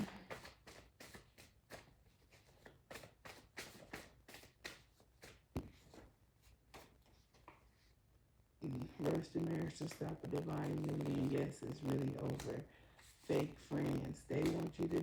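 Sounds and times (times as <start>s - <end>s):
cards being shuffled by hand: 0.0s - 7.7s, 9.0s - 15.0s.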